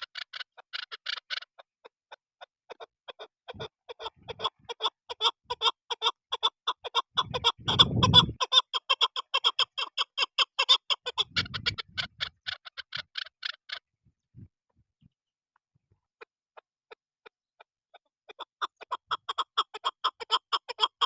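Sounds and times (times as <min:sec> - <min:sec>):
partridge clucking calls: 0:00.0 - 0:13.9, 0:16.2 - 0:21.0.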